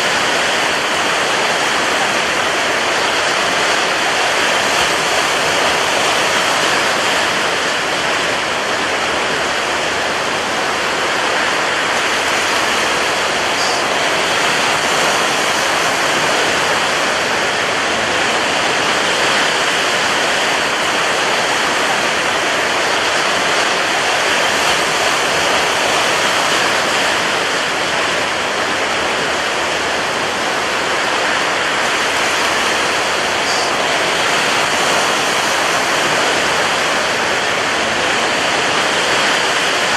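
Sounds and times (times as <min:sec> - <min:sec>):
rush of surf: 0:00.0 - 0:39.9.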